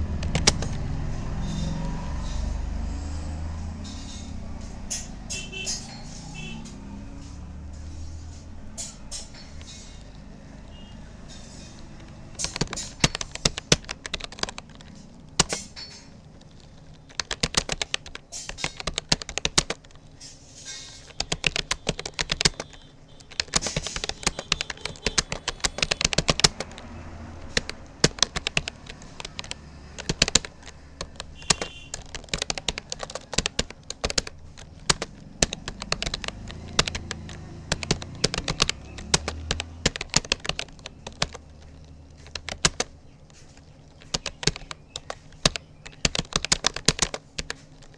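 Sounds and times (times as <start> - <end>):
keyboard typing clicks: 0.0 - 47.9.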